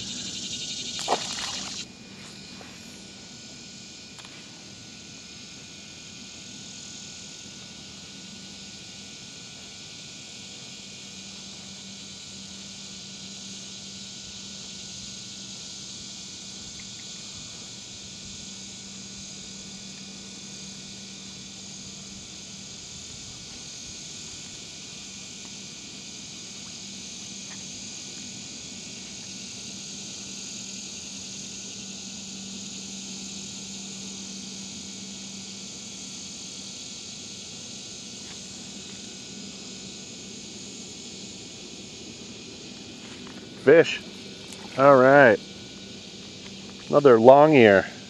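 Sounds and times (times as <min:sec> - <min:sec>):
crickets and insects chirping: 0:00.0 - 0:48.0
low steady hum: 0:00.0 - 0:48.0.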